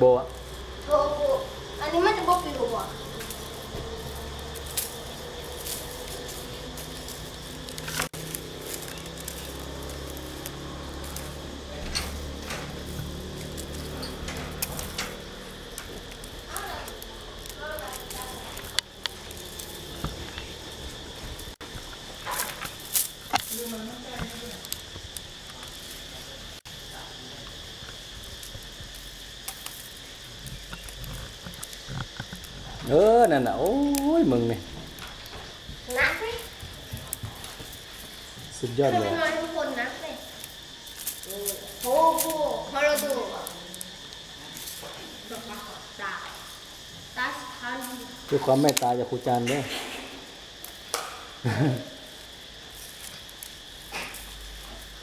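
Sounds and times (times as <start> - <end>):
steady low hum: 0.0 - 48.3
dry leaf midribs rustling: 0.0 - 55.0
insects trilling: 0.0 - 55.0.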